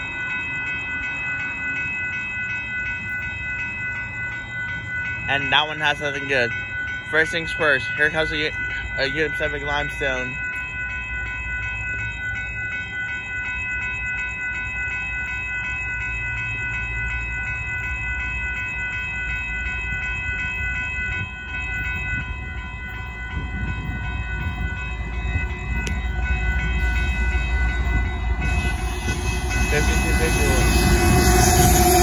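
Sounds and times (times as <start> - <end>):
crossing warning bell ringing: 0.0 - 32.0
freight train rumble: 0.0 - 32.0.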